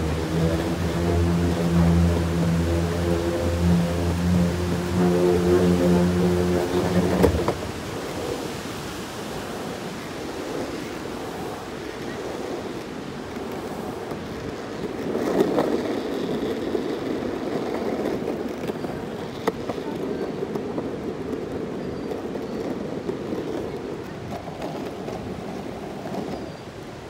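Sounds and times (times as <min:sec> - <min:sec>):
skateboard wheels rolling on asphalt: 0:00.0 - 0:27.0.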